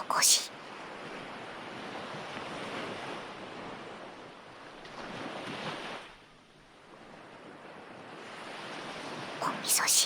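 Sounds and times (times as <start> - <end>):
ocean waves: 0.0 - 10.0.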